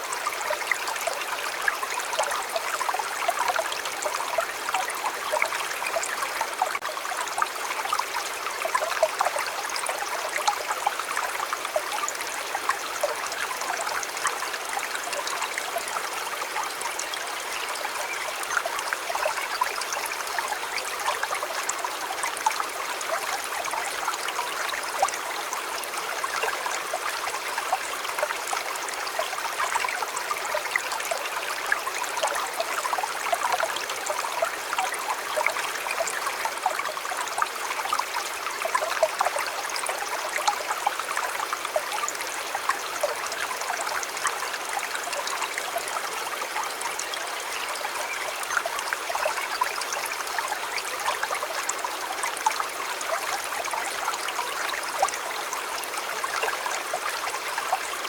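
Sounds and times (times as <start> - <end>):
water flowing over stones: 0.0 - 58.0.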